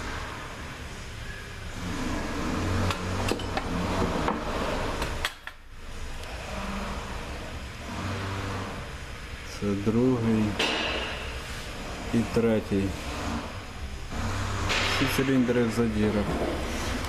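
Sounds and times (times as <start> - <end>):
low uneven hum: 0.0 - 17.0.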